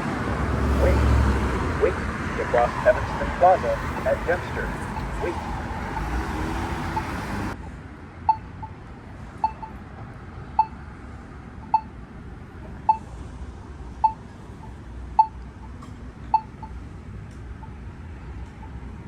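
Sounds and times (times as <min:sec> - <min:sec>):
pedestrian signal locator ticks: 0:00.0 - 0:09.8, 0:10.5 - 0:10.9, 0:11.6 - 0:12.0, 0:12.8 - 0:13.1, 0:13.9 - 0:19.0.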